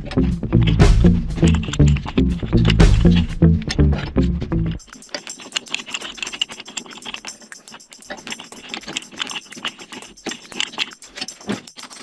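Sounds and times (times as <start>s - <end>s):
pipe threader ratchet clicks: 0.0s - 12.0s.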